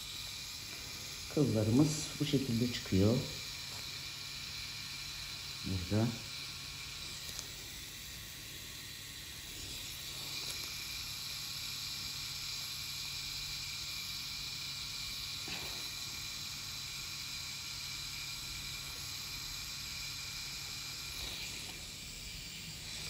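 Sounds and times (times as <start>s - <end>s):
makeup pen hissing buzz: 0.0s - 23.0s.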